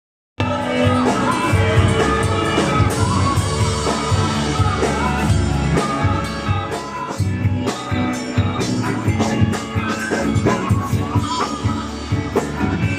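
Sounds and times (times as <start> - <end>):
person singing: 0.4 - 12.9
rock band music: 0.4 - 12.9
steady drum beat: 0.4 - 12.9.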